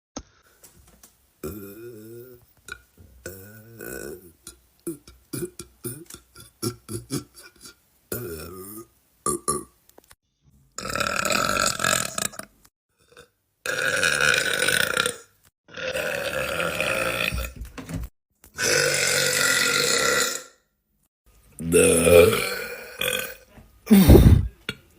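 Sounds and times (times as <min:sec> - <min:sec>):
man burping: 0:01.4 - 0:09.7, 0:10.8 - 0:17.5, 0:18.6 - 0:20.6, 0:21.6 - 0:24.8.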